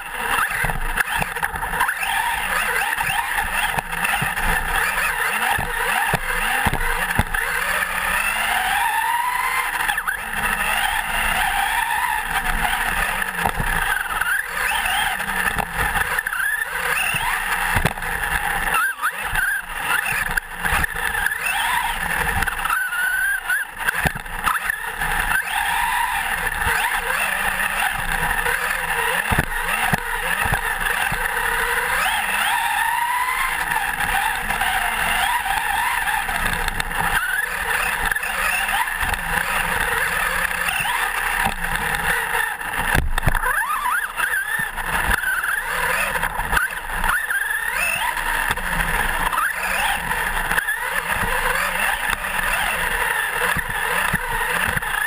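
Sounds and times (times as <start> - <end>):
electric motor and gear whine: 0.0 - 55.0
tyres on dirt: 0.0 - 55.0.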